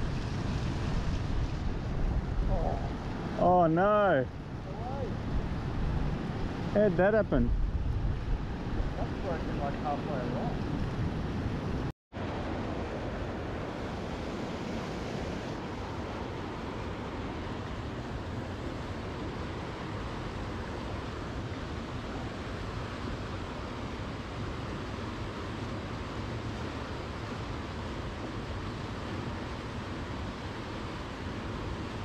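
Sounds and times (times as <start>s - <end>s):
flowing water rushing: 0.0s - 32.0s.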